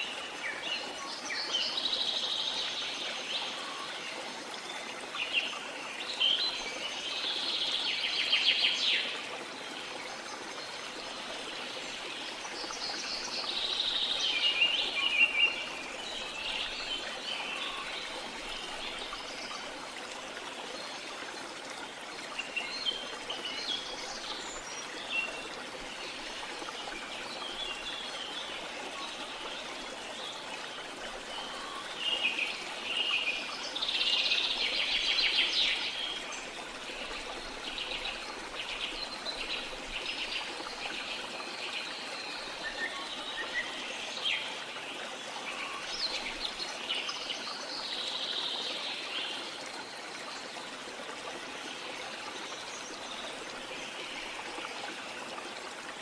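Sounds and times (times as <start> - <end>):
running water trickling: 0.0 - 56.0.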